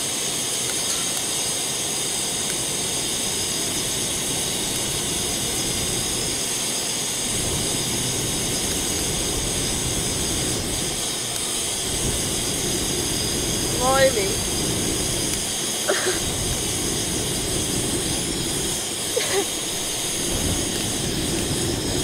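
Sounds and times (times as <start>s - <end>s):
blowing into wood fire: 0.0s - 22.0s
gas stove burner hissing: 0.0s - 22.0s
low rumble of flames: 0.0s - 22.0s.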